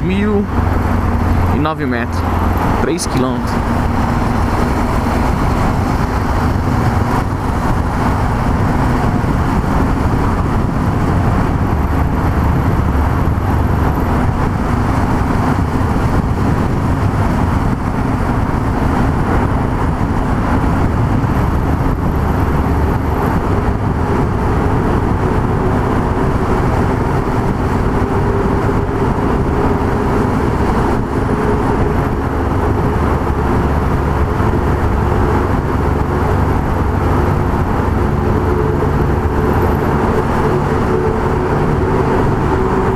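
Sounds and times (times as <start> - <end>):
wind rush: 0.0 - 42.9.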